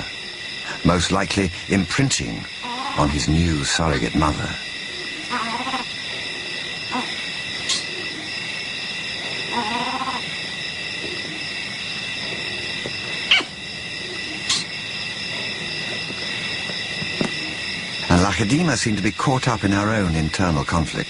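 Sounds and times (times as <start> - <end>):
insect-like chorus: 0.0 - 21.0.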